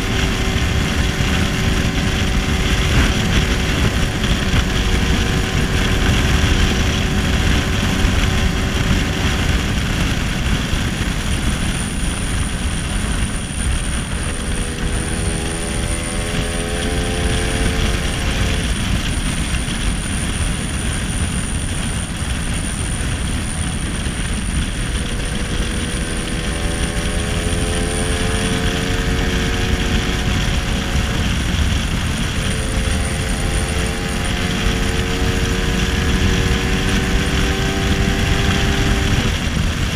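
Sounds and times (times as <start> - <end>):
scooter engine running: 0.0 - 39.9
wind rumble on microphone: 0.0 - 39.9.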